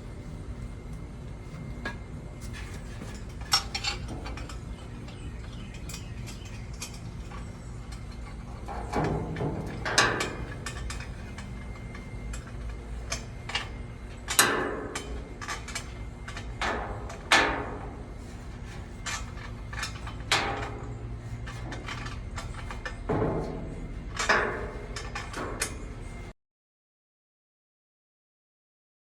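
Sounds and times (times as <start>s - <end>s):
ringing metal clanks: 1.4s - 25.9s.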